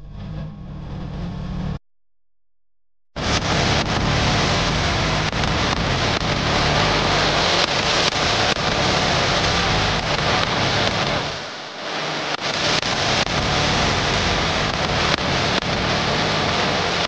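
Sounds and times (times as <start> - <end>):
loud steady rushing noise: 3.2 - 17.0.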